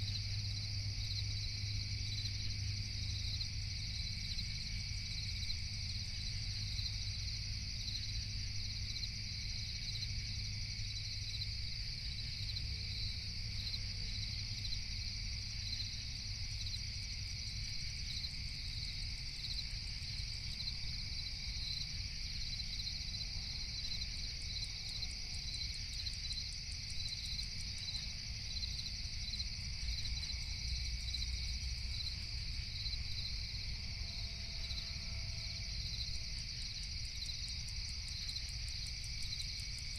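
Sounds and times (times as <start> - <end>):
crickets chirping: 0.0 - 39.9
low steady rumble: 0.0 - 39.9.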